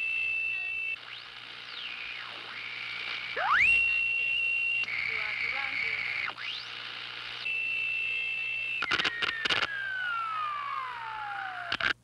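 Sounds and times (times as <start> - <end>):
electronic tone gliding downward: 0.0 - 5.5, 7.5 - 11.8.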